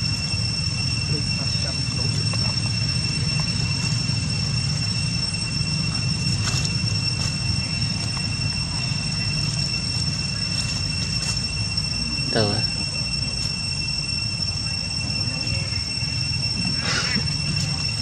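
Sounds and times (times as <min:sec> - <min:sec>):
insects droning: 0:00.0 - 0:18.0
low rumble: 0:00.0 - 0:18.0.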